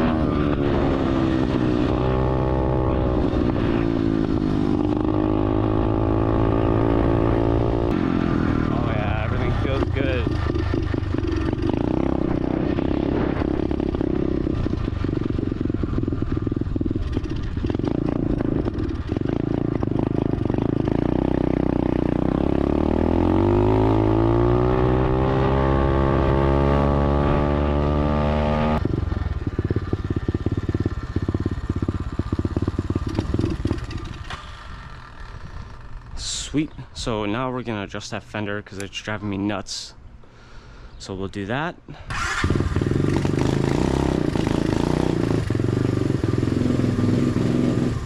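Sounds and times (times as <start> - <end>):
dirt bike engine accelerating: 0.0 - 36.3, 42.1 - 48.0.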